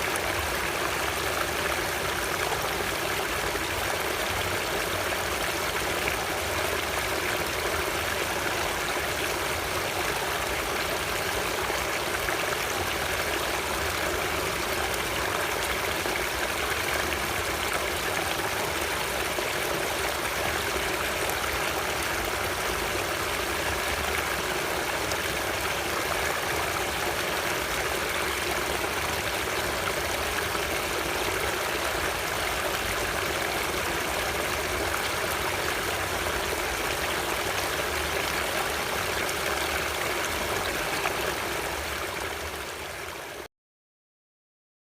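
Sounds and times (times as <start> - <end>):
water rushing: 0.0 - 43.4.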